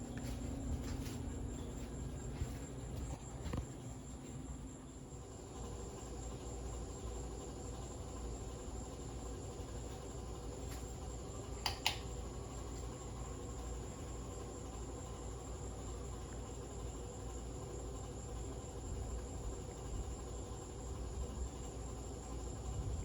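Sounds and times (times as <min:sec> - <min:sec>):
ceiling fan hum and whine: 0:00.0 - 0:23.0.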